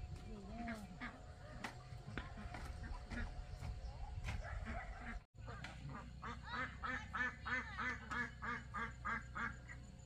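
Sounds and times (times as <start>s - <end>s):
ducks quacking: 0.3s - 9.9s.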